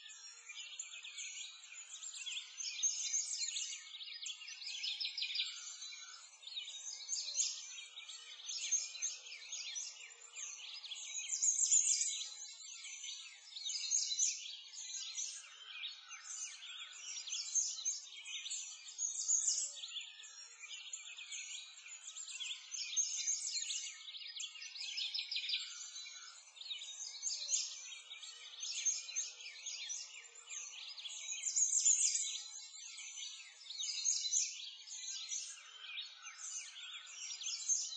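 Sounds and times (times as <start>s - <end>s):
small birds chirping and singing: 0.0s - 37.9s.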